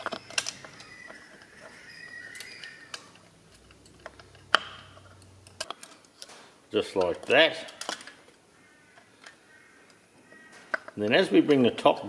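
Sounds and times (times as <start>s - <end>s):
small metallic clicks and taps: 0.0s - 6.4s, 7.0s - 11.6s.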